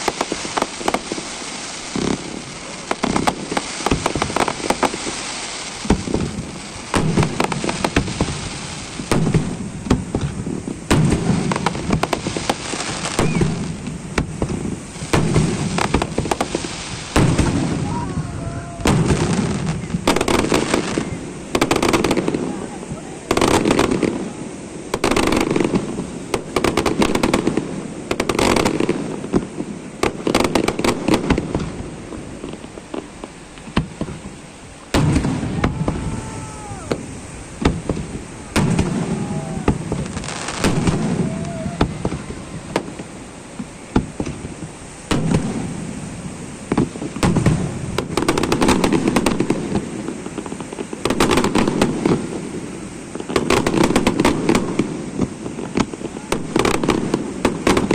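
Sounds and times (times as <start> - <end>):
fireworks bangs: 0.0 - 57.9
fireworks crackling: 0.0 - 57.9.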